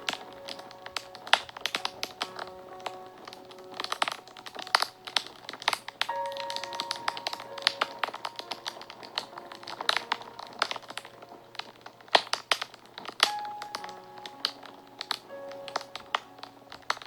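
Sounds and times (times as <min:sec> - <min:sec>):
soft background music: 0:00.0 - 0:17.0
wood fire crackling: 0:00.0 - 0:17.0.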